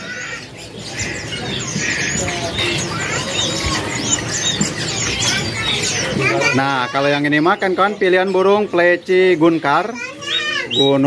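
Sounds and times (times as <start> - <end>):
low background murmur: 0.0 - 11.0
songbirds chirping and twittering: 0.0 - 11.0.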